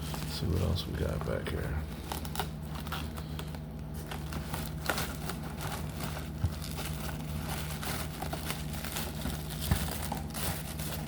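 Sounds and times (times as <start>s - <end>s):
packaging rustling and crinkling: 0.0s - 11.0s
steady low hum: 0.0s - 11.0s.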